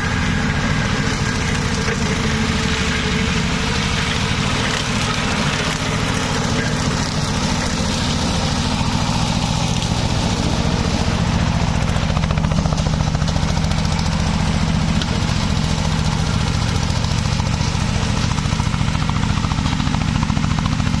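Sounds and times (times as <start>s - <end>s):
mower engine running: 0.0s - 21.0s.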